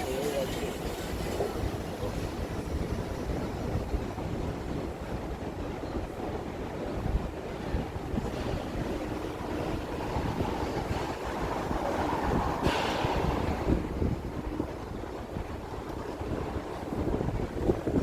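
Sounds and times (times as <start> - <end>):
city street rumble: 0.0 - 18.0
wind buffeting microphone: 0.0 - 18.0.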